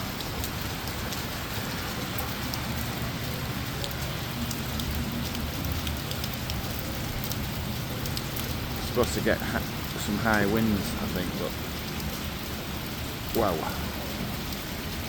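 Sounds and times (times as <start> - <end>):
heavy rain falling: 0.0 - 15.0
raindrops ticking close by: 0.0 - 15.0.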